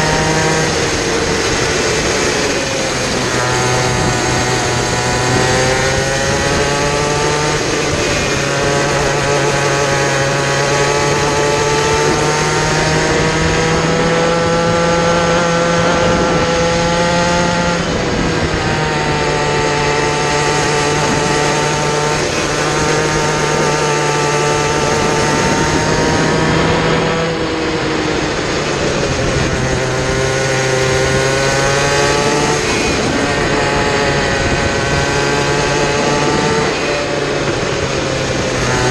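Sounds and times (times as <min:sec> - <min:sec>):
small racing engine revving: 0:00.0 - 0:38.9.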